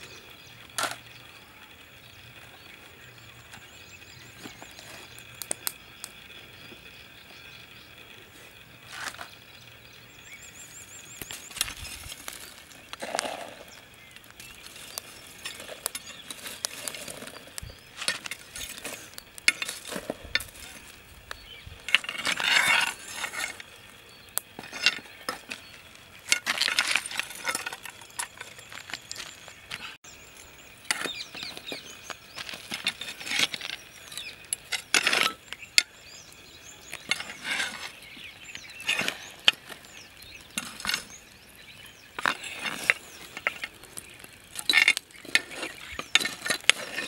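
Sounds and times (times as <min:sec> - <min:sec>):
charcoal clinking and scraping: 0:00.0 - 0:47.0.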